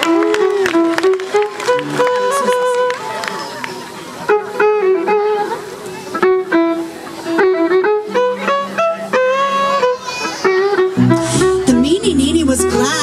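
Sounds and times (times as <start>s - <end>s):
acoustic band playing instrumental: 0.0s - 13.0s
fiddle melody: 0.0s - 13.0s.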